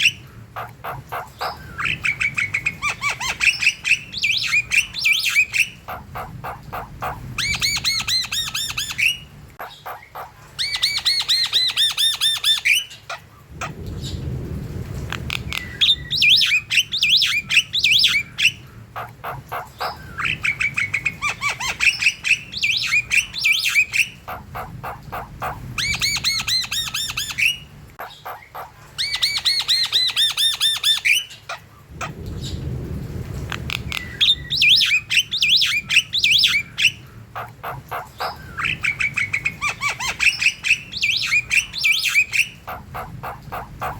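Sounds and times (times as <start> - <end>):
birds chattering: 0.0 - 14.3, 15.1 - 32.7, 33.4 - 43.9.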